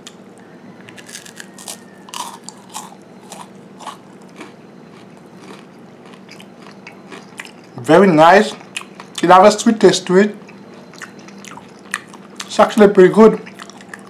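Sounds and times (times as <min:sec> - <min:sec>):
crunchy chewing of cracker: 0:00.8 - 0:09.6, 0:10.3 - 0:12.6, 0:13.2 - 0:14.0.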